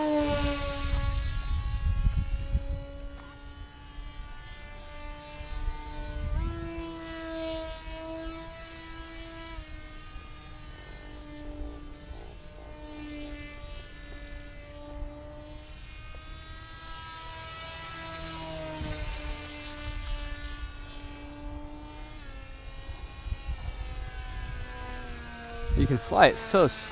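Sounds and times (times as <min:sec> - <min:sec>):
low wind rumble: 0:00.0 - 0:26.9
model airplane motor whining: 0:00.0 - 0:26.9.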